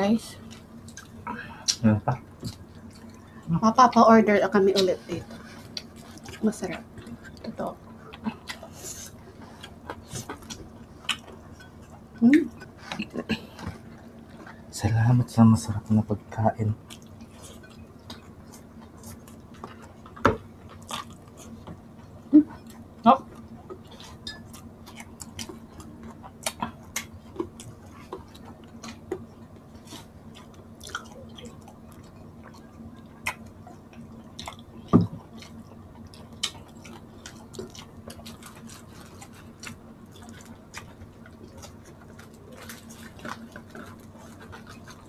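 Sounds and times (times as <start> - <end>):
people chewing crispy food: 0.0 - 45.0
steady low hum: 0.0 - 45.0.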